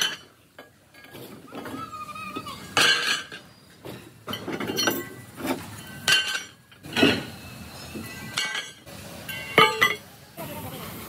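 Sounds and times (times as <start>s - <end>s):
steel discs clanging on steel plate: 0.0s - 1.9s, 2.6s - 10.1s.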